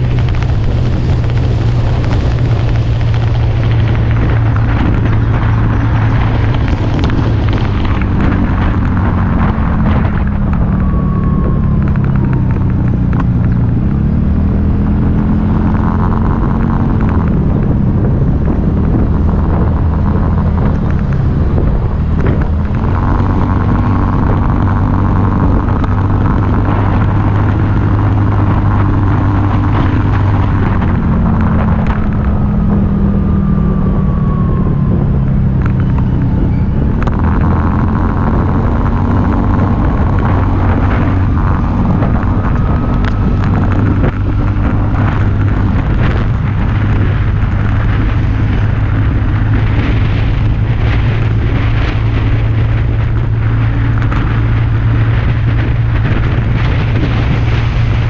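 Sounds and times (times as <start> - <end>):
camera rattling from vibration: 0.0 - 58.0
heavy low rumble: 0.0 - 58.0
scooter engine running: 0.0 - 58.0.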